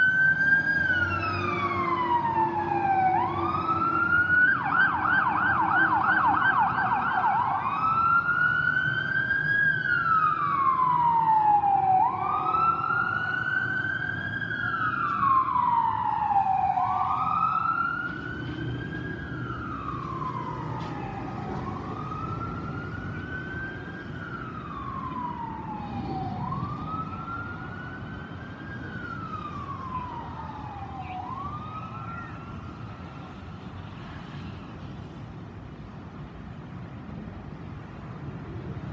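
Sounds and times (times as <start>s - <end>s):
fire engine siren wailing: 0.0s - 35.2s.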